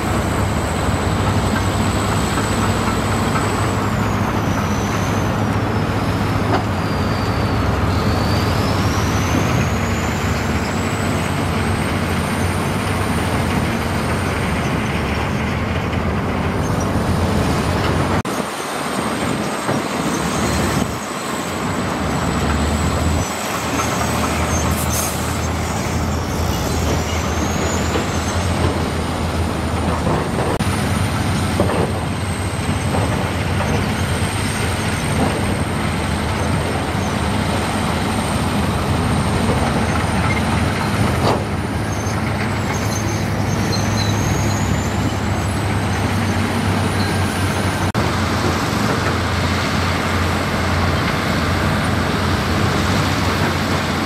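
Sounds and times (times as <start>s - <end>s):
diesel construction machinery running: 0.0s - 54.0s.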